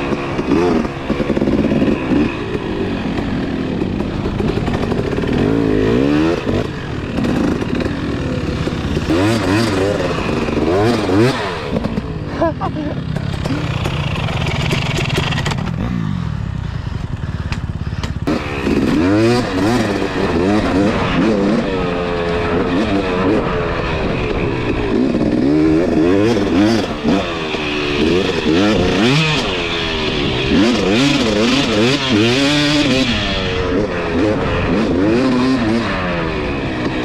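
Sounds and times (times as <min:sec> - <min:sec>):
two-stroke dirt bike engine: 0:00.0 - 0:37.0.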